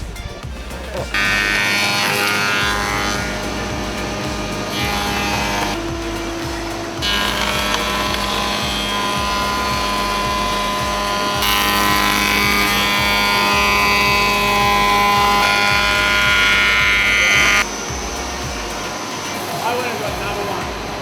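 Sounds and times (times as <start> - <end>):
background music with low beat: 0.0 - 21.0.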